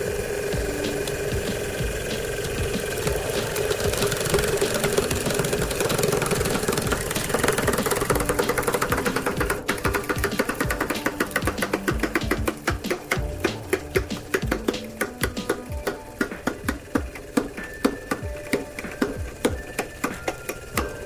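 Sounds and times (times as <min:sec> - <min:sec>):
hydraulic pump motor humming: 0:00.0 - 0:21.0
fast even clicks: 0:00.5 - 0:21.0.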